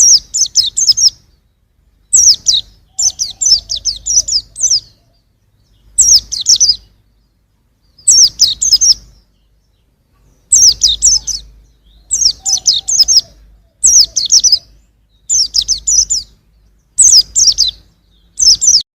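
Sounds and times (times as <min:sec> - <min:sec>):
bird chirping: 0:00.0 - 0:18.9.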